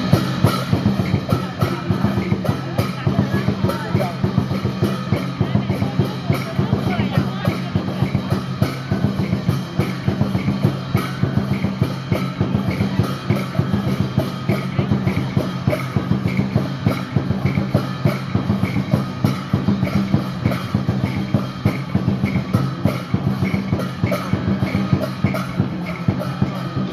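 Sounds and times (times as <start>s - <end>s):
quick drum beat: 0.0s - 26.9s.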